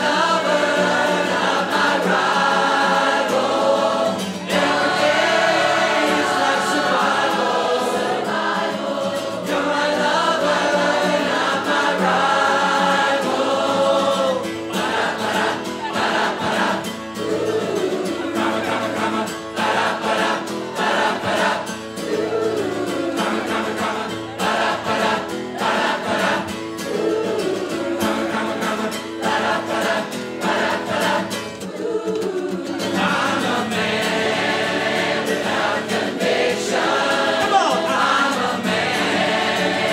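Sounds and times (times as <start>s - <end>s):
crowd singing together: 0.0s - 39.9s
strummed acoustic guitar: 0.0s - 39.9s.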